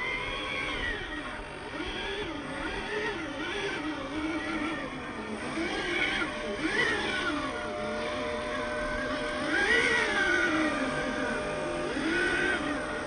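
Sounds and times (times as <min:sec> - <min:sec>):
electric motor and gearbox whining: 0:00.0 - 0:13.0.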